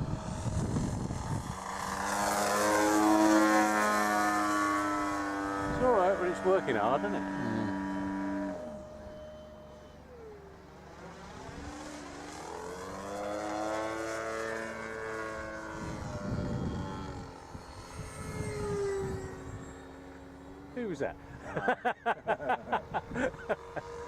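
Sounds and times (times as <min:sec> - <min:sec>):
model plane engine flying by: 0:00.0 - 0:24.0.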